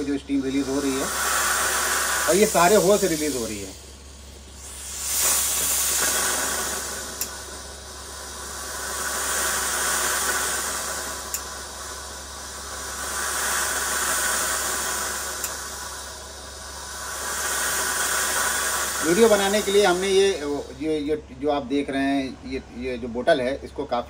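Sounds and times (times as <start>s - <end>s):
steam iron hissing: 0.0s - 21.1s.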